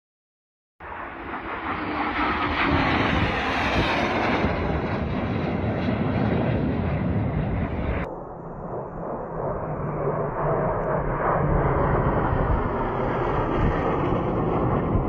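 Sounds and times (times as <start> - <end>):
jet passing low with falling whine: 0.8 - 15.0.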